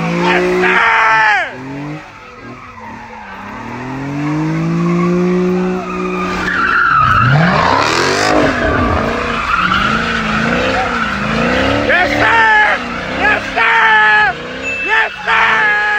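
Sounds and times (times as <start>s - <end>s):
car engine revving: 0.0s - 15.9s
tires squealing: 0.0s - 15.9s.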